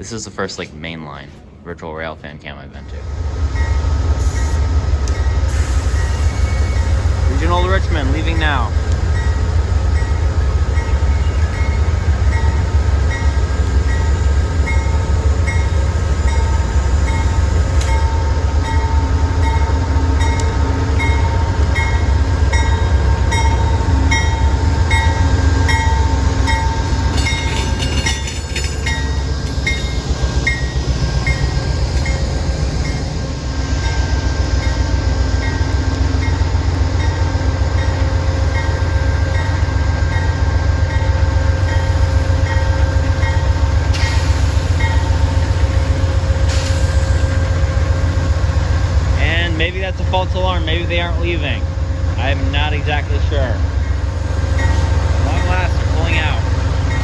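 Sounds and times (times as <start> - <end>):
diesel locomotive engine rumbling: 0.0 - 57.0
locomotive bell ringing: 2.0 - 57.0.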